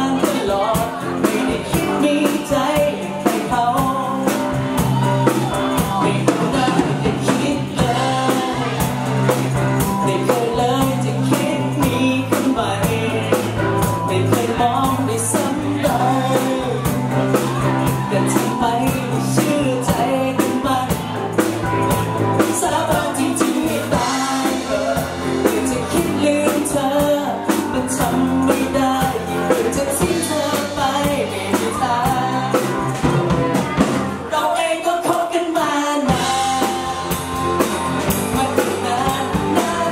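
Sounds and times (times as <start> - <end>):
live pop-rock band playing: 0.0 - 39.9
man singing: 0.0 - 39.9.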